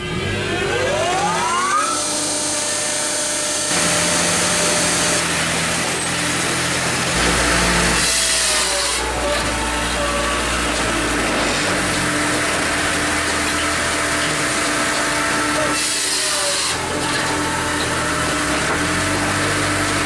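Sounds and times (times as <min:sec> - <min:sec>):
electric motor drone: 0:00.0 - 0:20.0
whining tones: 0:00.0 - 0:20.0.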